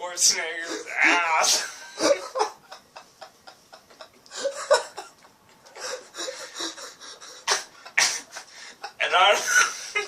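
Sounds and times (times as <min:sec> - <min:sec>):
person stifling laughter: 0:00.9 - 0:10.0.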